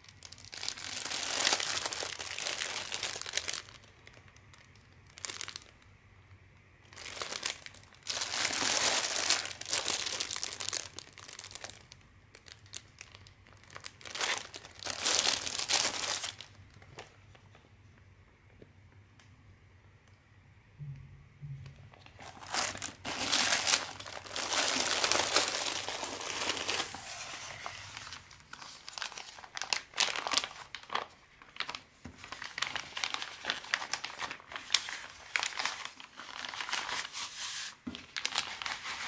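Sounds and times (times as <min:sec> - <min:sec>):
plastic wrapping crinkling: 0:00.0 - 0:17.7, 0:21.9 - 0:39.0.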